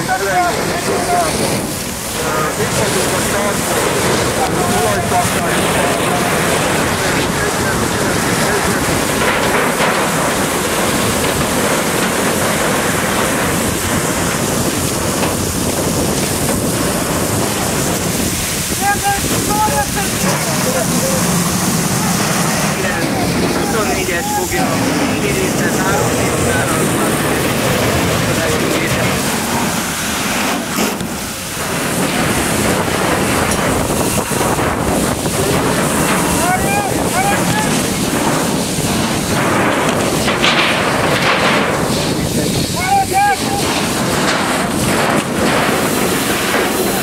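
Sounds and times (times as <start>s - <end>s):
building fire roaring: 0.0s - 47.0s
hose spraying water: 0.0s - 47.0s.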